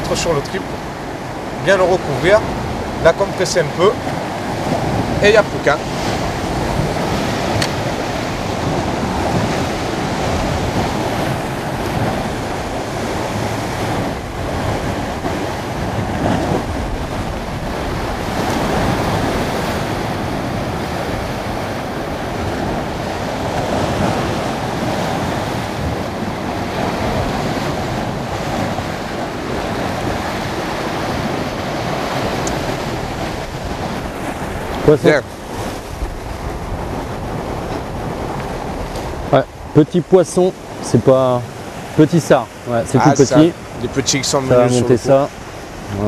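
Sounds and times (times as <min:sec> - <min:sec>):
sea surging against rocks: 0:00.0 - 0:46.0
wind buffeting microphone: 0:00.0 - 0:46.0.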